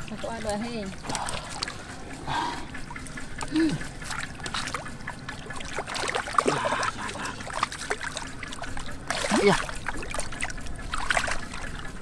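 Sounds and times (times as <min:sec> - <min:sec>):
swamp water splashing: 0:00.0 - 0:12.0.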